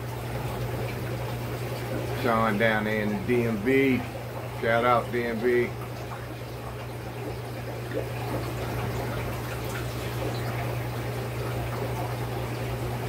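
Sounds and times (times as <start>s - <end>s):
water trickling from filter: 0.0s - 13.0s.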